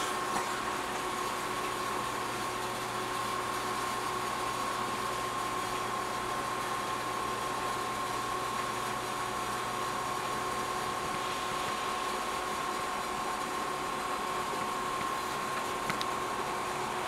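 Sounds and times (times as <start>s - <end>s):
aquarium filter water hiss: 0.0s - 17.0s
thin constant whine: 0.0s - 17.0s.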